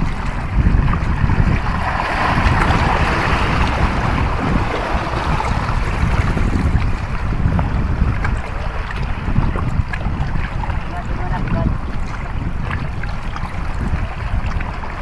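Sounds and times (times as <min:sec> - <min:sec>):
sea water washing over rocks: 0:00.0 - 0:15.0
wind buffeting microphone: 0:00.0 - 0:15.0.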